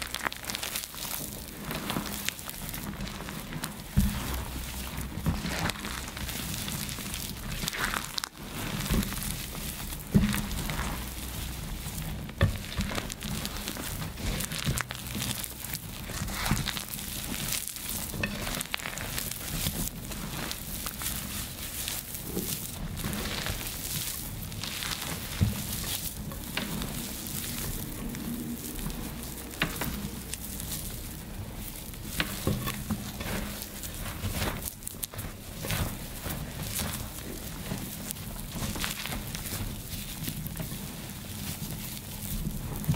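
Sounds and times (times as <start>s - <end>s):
wet chalk crunching and crackling: 0.0s - 42.9s.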